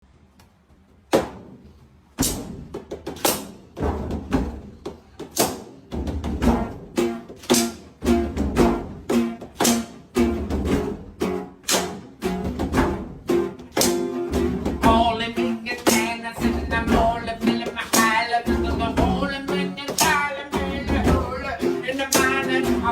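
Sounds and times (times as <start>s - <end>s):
background music with drum beat: 2.2s - 22.9s.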